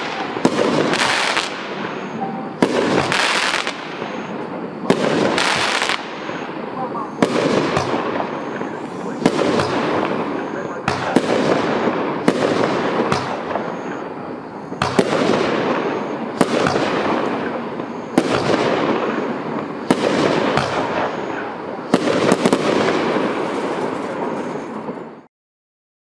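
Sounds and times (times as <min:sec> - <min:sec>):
fireworks cake firing bangs: 0:00.0 - 0:06.6, 0:07.2 - 0:25.1.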